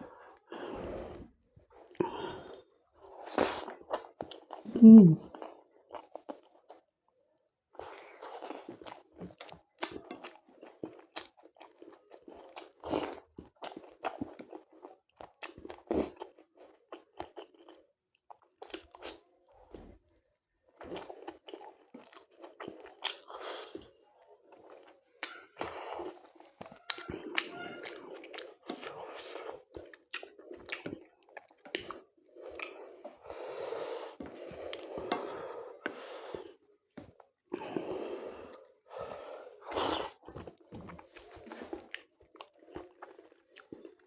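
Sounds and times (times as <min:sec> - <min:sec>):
person chewing and crunching food: 0:00.0 - 0:07.0, 0:07.8 - 0:20.0, 0:20.7 - 0:44.0.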